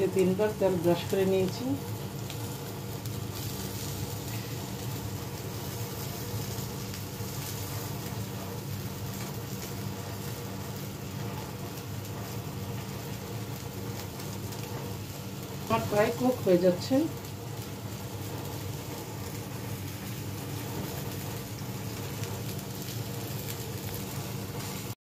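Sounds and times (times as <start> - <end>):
chicken sizzling in oil: 0.0 - 25.0
low steady hum: 0.0 - 25.0.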